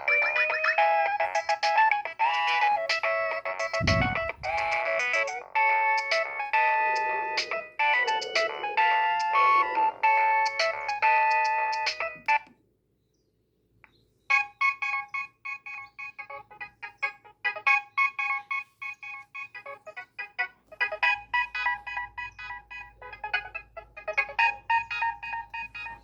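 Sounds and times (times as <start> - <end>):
mobile phone ringtones: 0.0 - 12.5, 14.3 - 26.0.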